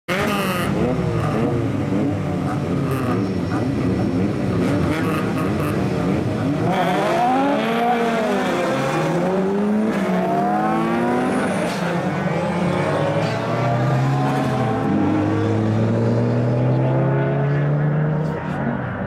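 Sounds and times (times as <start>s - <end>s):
race car engines revving: 0.1s - 19.0s.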